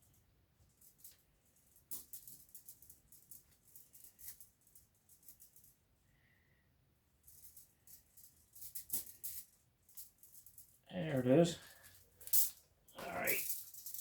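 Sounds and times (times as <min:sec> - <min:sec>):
rustling and rattling of parts: 0:00.0 - 0:05.8, 0:07.2 - 0:14.0.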